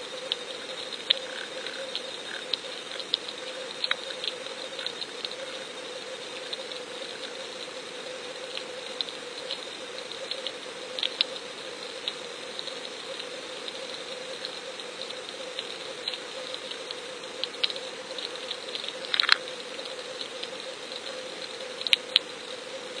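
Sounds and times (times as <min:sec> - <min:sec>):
sharp clicks and crackles: 0:00.2 - 0:05.7, 0:08.5 - 0:22.4.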